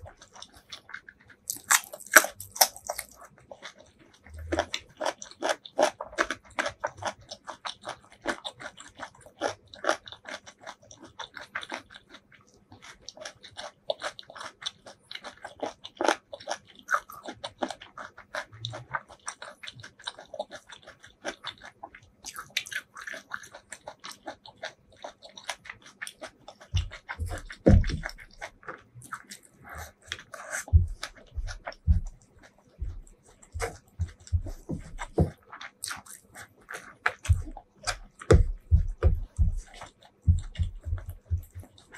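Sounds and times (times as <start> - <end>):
chewing food with wet mouth clicks: 0.0 - 41.9.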